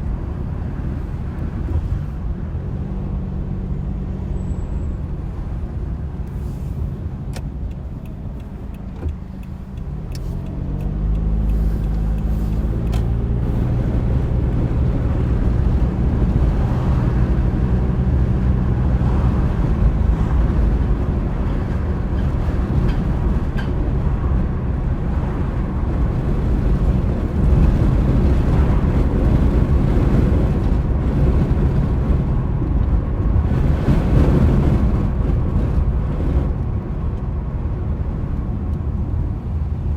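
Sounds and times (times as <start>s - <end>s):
car driving rumble: 0.0s - 39.9s
car engine running: 5.6s - 39.9s.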